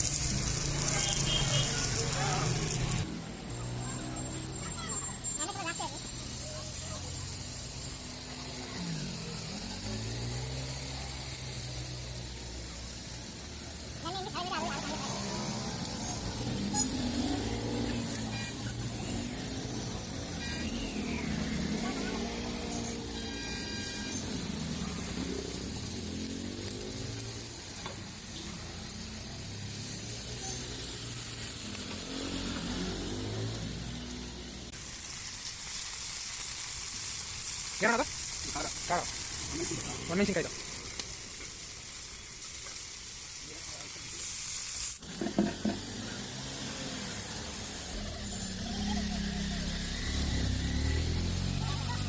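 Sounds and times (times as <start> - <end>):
fish sizzling in oil: 0.0 - 52.0.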